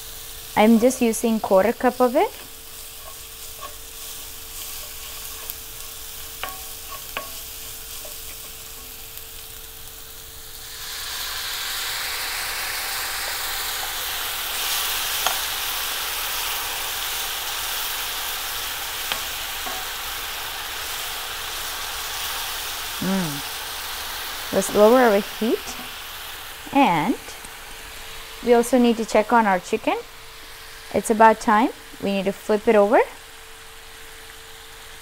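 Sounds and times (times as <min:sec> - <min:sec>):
gravy sizzling in a pan: 0:00.0 - 0:35.0.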